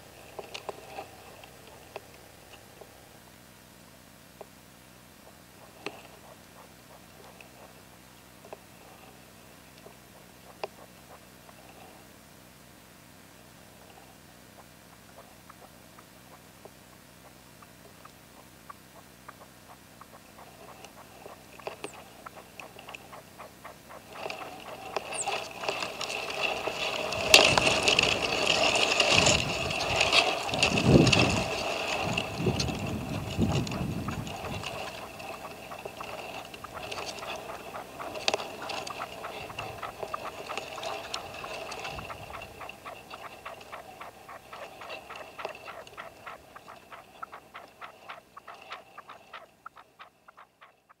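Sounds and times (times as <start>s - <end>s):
partridge decoy clucking: 5.2s - 12.0s, 13.9s - 51.0s.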